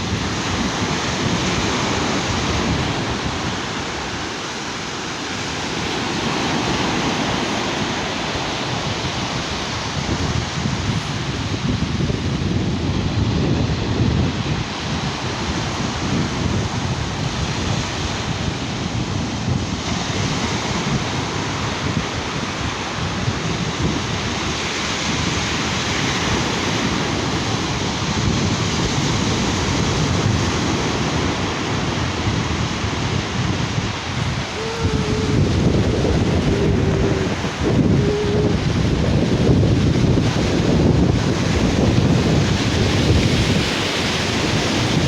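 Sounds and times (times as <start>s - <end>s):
surf washing onto beach: 0.0s - 45.0s
wind buffeting microphone: 0.0s - 45.0s.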